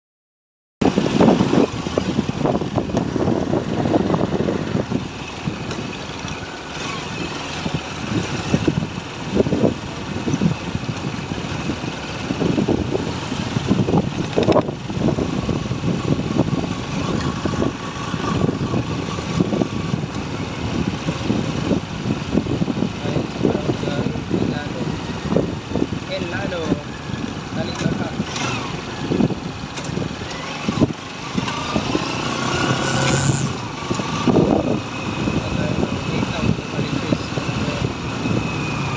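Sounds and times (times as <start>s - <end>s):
motorcycle engine running: 0.8s - 38.9s
wind buffeting microphone: 0.8s - 38.9s.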